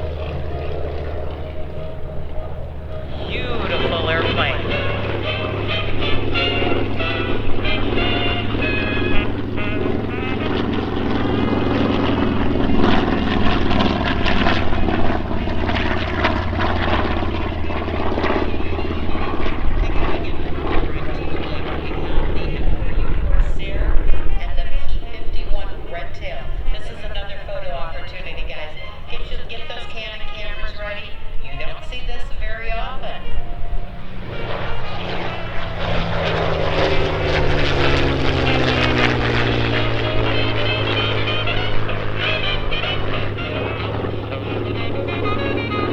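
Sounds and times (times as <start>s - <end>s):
propeller plane piston engine: 0.0s - 45.9s.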